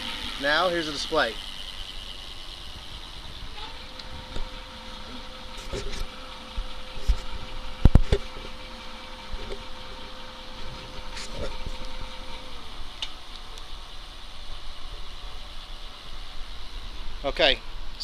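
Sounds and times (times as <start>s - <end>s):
electric hub motor whining: 0.0s - 17.2s.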